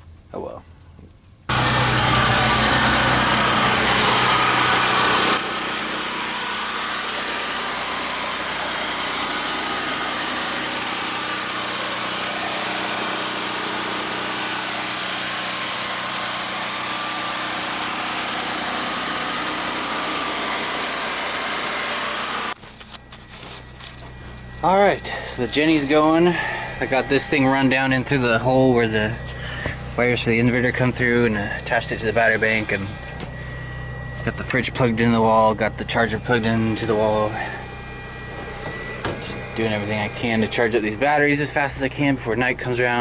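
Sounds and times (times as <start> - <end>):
portable generator running: 1.5 - 43.0.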